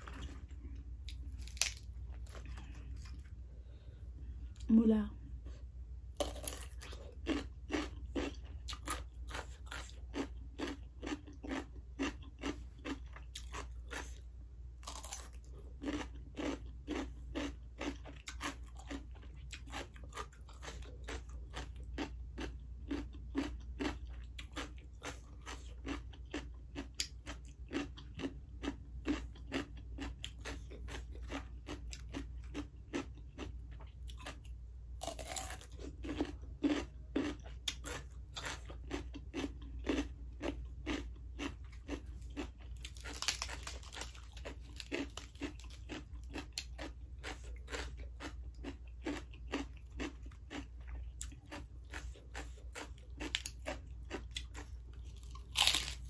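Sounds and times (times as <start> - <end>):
crunching raw radish: 0.0 - 3.4, 6.1 - 28.4, 29.0 - 56.0.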